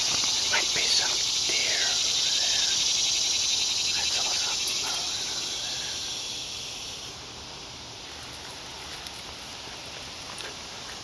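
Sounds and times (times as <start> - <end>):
cicadas buzzing chorus: 0.0 - 11.0.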